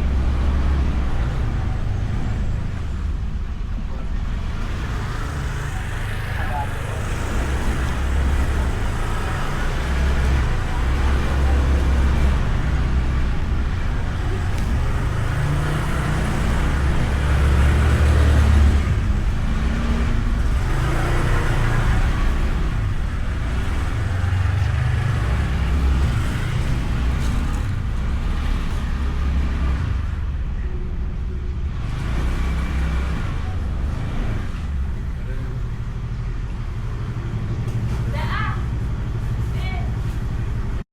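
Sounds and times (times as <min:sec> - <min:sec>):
scooter engine running: 0:04.7 - 0:40.7.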